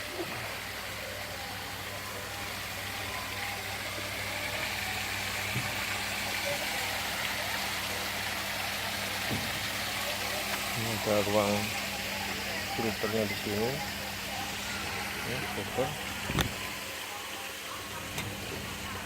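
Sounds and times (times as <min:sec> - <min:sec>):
pump motor hum: 0:00.0 - 0:19.0
waterfall splashing: 0:00.0 - 0:19.0.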